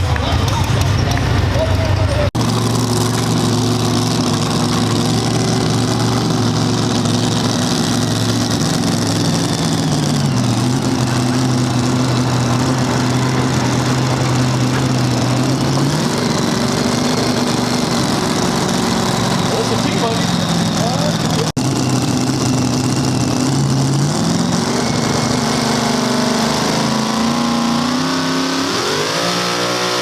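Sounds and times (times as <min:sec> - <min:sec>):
vehicle engine running loud: 0:00.0 - 0:30.0.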